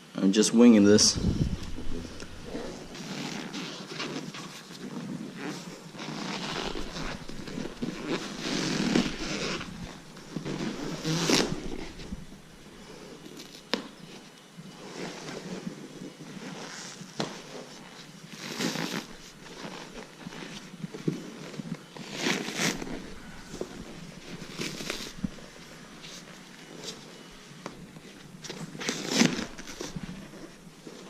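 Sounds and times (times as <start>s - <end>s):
seat cover scraping and crackling: 1.0s - 13.6s, 16.4s - 31.0s.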